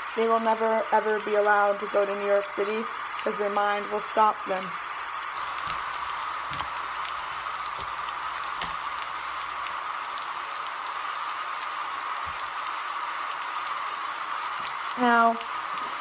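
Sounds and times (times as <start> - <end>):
room noise hiss: 0.0 - 16.0.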